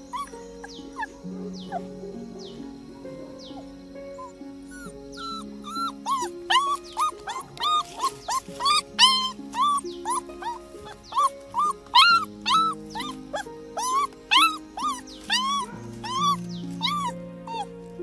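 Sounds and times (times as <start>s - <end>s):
puppy whining: 0.0s - 17.8s
background music with chords: 0.0s - 18.0s.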